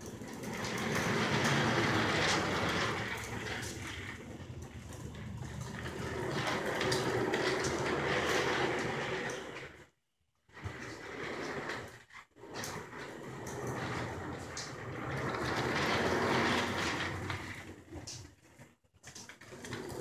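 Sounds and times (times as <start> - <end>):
chair casters rolling on concrete: 0.0 - 20.0.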